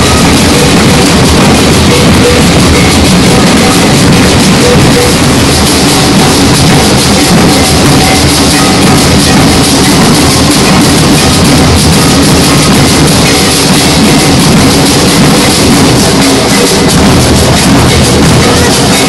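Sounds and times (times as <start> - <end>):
bass drums playing together: 0.0 - 19.0.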